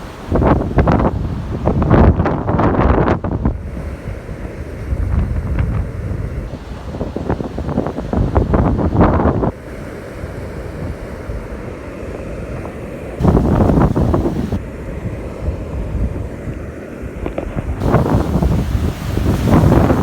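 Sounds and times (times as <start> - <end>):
wind buffeting microphone: 0.0 - 9.6, 12.3 - 20.0
ocean surf: 0.0 - 20.0.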